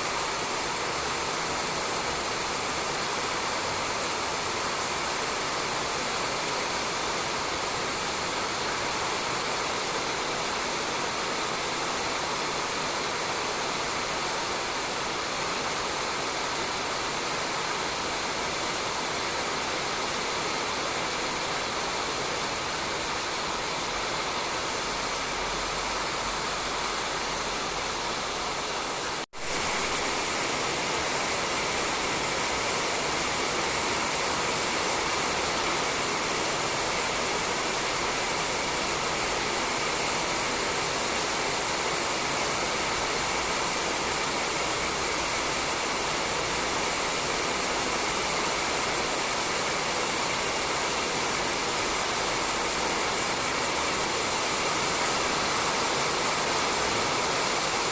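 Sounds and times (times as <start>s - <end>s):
rain falling on a roof: 0.0s - 57.9s.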